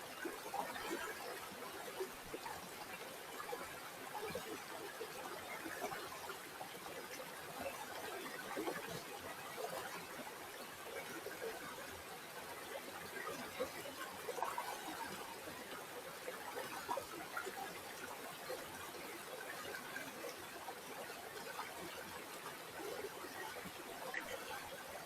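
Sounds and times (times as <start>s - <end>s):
river water babbling: 0.1s - 25.0s.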